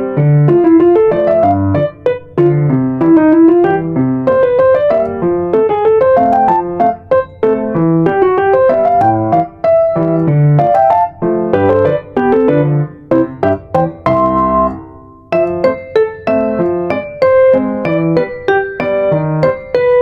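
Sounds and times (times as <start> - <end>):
solo piano melody: 0.0 - 20.0.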